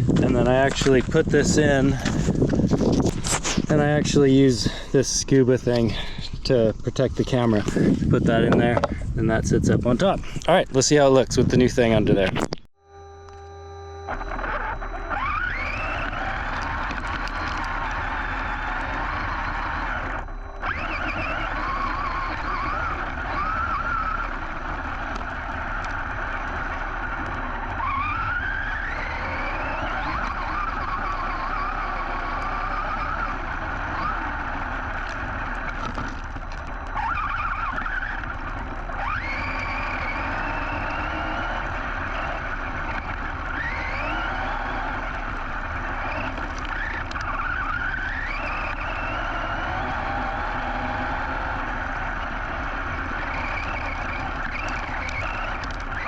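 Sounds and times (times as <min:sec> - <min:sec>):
tires rushing over dirt: 0:00.0 - 0:12.6, 0:14.1 - 0:56.0
electric motor whine: 0:00.0 - 0:56.0.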